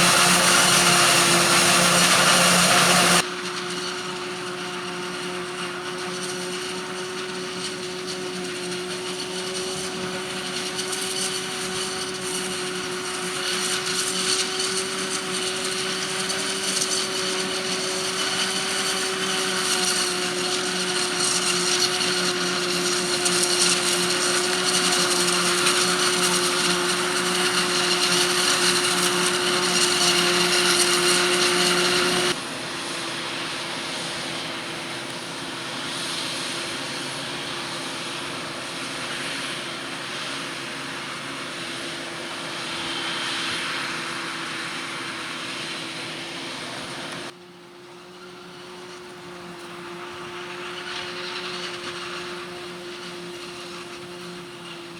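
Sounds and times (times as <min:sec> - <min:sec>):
engine noise: 0:00.0 - 0:54.9
harvest machinery whine: 0:00.0 - 0:54.9.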